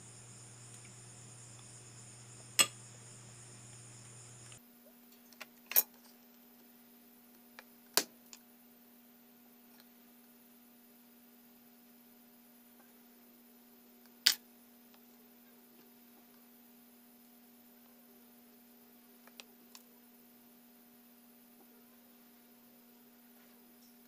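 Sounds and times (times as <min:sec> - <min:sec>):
faint electrical hum: 0:00.0 - 0:24.0.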